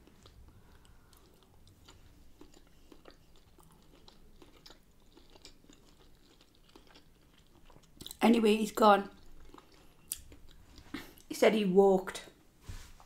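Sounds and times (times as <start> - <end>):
faint chewing with mouth clicks: 0.0 - 8.4, 9.0 - 11.3.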